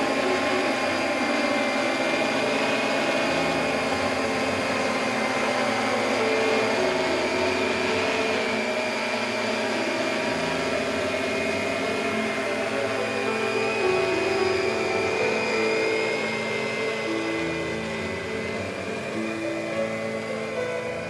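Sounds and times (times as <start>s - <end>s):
drone motors buzzing whine: 0.0s - 21.0s.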